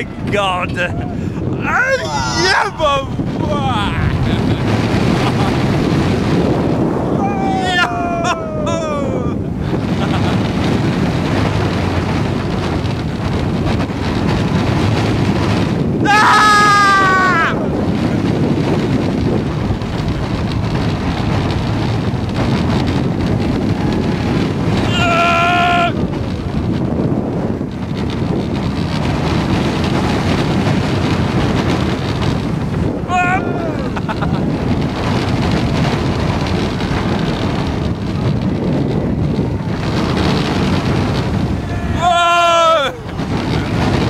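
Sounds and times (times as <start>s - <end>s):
roller coaster train rumble: 0.0s - 44.0s
wind rushing over microphone: 0.0s - 44.0s.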